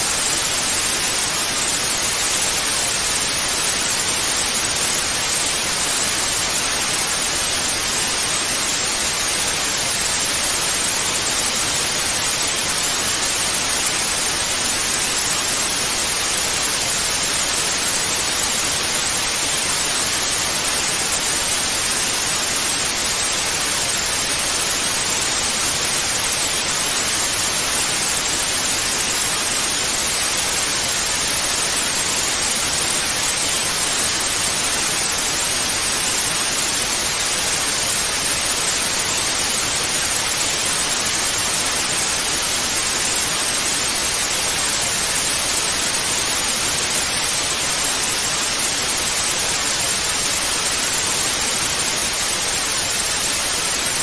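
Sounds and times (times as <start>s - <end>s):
television static hiss: 0.0s - 54.0s.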